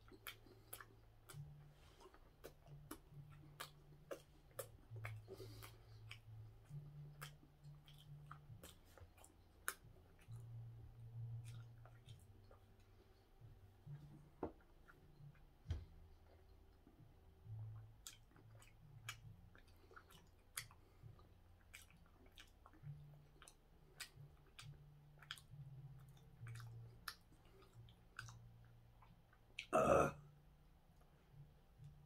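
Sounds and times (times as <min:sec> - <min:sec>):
chewing with wet mouth clicks: 0:00.0 - 0:29.7.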